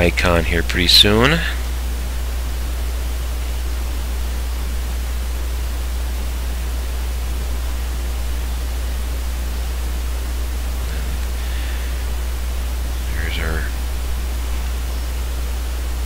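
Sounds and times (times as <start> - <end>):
microphone hiss and hum: 0.0 - 16.0.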